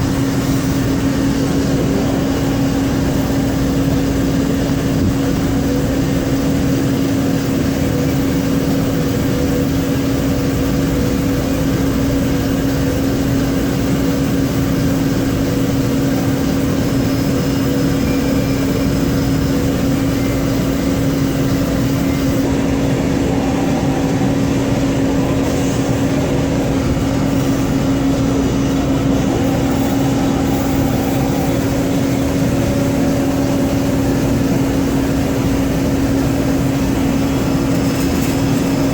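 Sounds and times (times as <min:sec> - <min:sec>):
lathe machine hum: 0:00.0 - 0:38.9.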